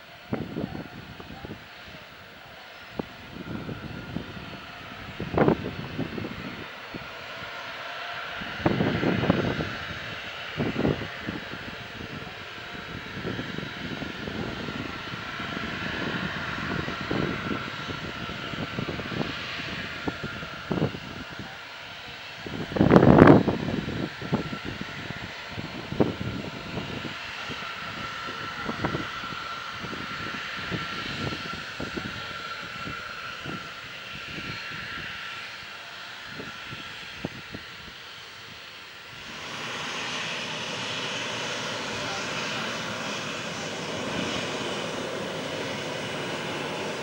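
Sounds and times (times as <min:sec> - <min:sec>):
jet engine roar with whine: 0:00.0 - 0:47.0.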